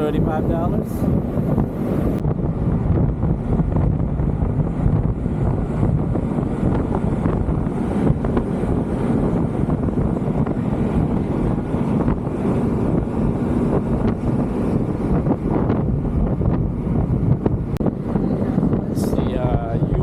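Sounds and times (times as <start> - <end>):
boat engine low rumble: 0.0 - 20.0
wind buffeting microphone: 0.0 - 20.0.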